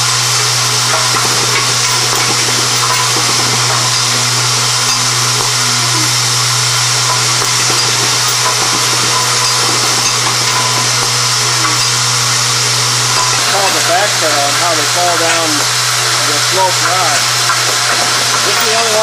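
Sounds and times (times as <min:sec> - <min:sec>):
low buzz of bowl feeders: 0:00.0 - 0:19.0
metal parts rattling and clicking: 0:00.4 - 0:19.0.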